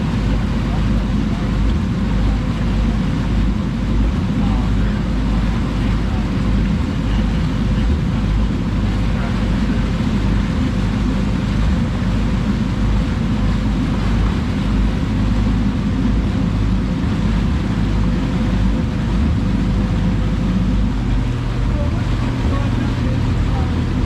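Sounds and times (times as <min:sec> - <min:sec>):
boat engine droning: 0:00.0 - 0:24.0
wind: 0:00.0 - 0:24.0.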